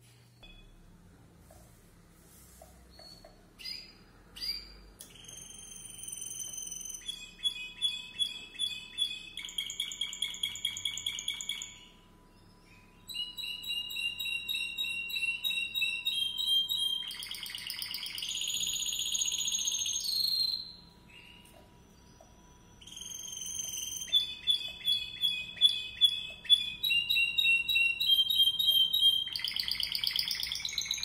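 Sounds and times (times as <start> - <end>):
canary singing: 2.9 - 31.0.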